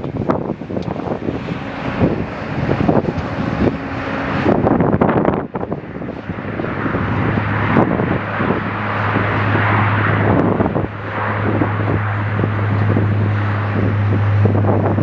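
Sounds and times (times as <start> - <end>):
low engine hum: 0.0 - 15.0
wind gusting against microphone: 0.0 - 15.0.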